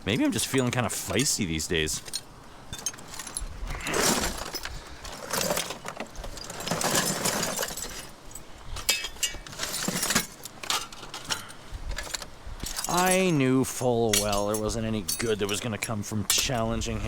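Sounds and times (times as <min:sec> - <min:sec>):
scrap metal clinking: 0:00.0 - 0:16.6.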